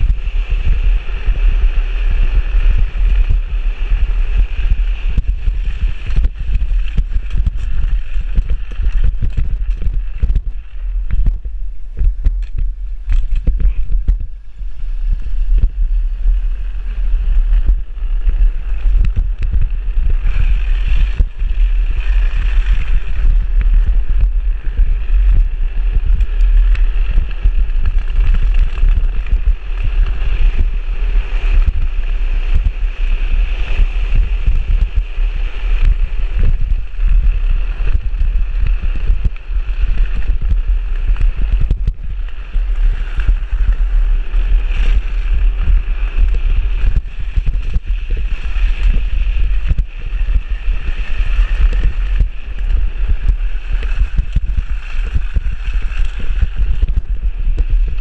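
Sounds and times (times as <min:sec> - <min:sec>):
plastic wheels scraping on asphalt: 0:00.0 - 0:58.0
wind buffeting microphone: 0:00.0 - 0:58.0.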